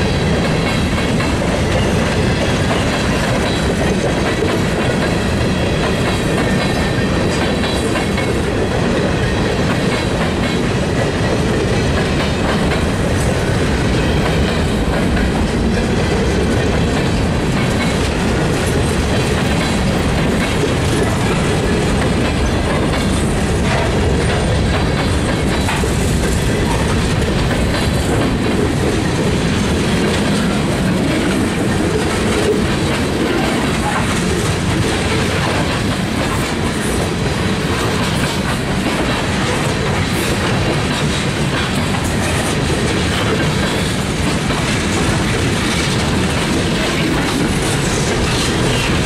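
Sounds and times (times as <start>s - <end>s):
freight train wheels clattering: 0.0s - 49.0s.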